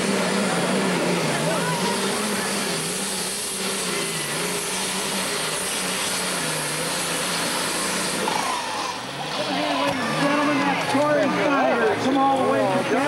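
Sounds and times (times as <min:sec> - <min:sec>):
tractor engine under full load: 0:00.0 - 0:13.0.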